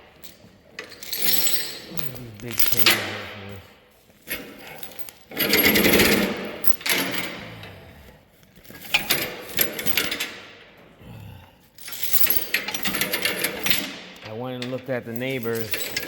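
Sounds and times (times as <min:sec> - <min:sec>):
heavy metal chains rattling: 0:00.0 - 0:07.8, 0:08.6 - 0:10.7, 0:11.8 - 0:16.0.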